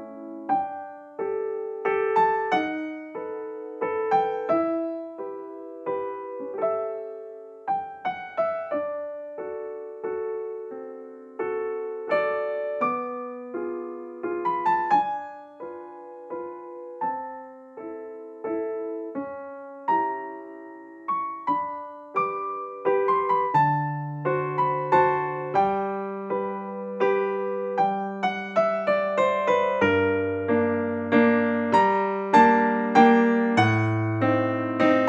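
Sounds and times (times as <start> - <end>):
gentle piano melody: 0.0 - 35.0.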